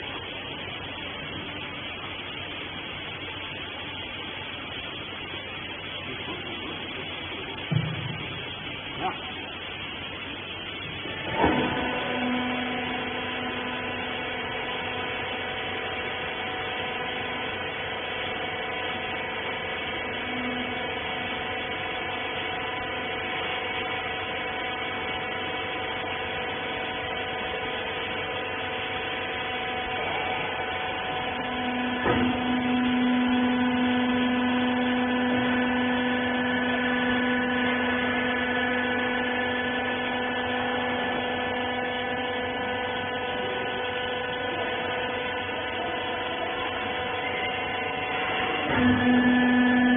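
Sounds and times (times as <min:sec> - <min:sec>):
electric motor and pump humming: 0:00.0 - 0:49.9.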